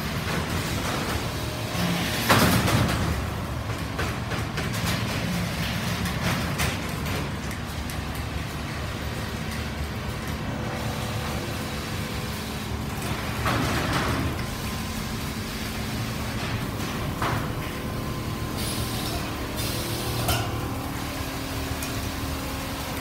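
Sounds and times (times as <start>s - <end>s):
quilting machines humming: 0.0s - 23.0s.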